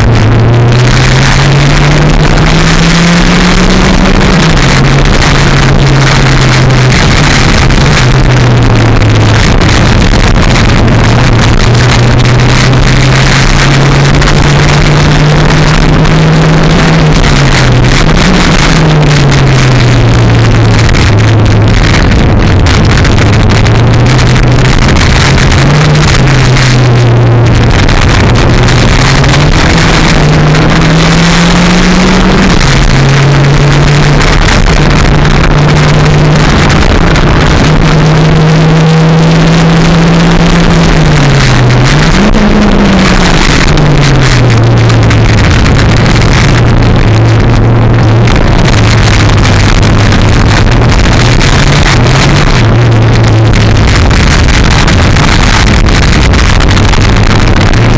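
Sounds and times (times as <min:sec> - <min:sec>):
car engine running loud: 0:00.0 - 0:57.9
rush of noise: 0:00.0 - 0:57.9.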